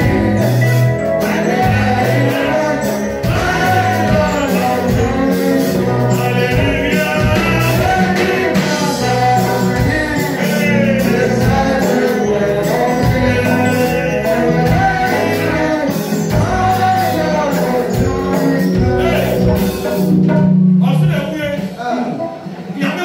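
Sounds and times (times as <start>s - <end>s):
man singing into microphone: 0.0s - 20.1s
bass and percussion beat: 0.0s - 21.6s
amplified instrumental accompaniment: 0.0s - 23.0s.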